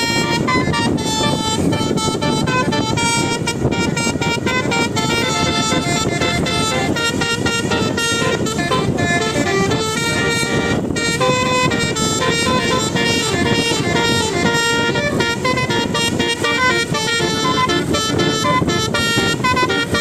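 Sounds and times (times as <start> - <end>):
car horns tooting: 0.0 - 20.0
traffic din: 0.0 - 20.0.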